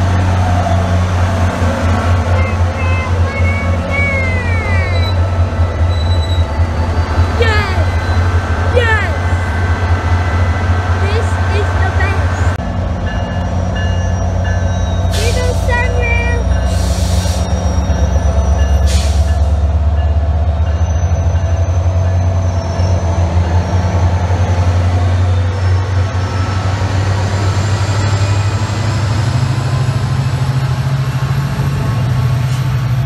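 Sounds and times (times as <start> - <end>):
diesel locomotive hum: 0.0 - 33.0
train wheel and rail noise: 0.0 - 33.0.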